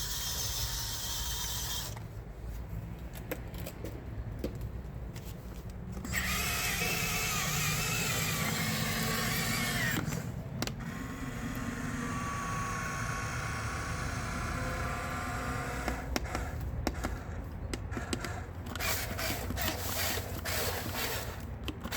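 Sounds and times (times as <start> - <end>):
toy bulldozer motors whining: 0.0 - 2.1, 6.0 - 21.9.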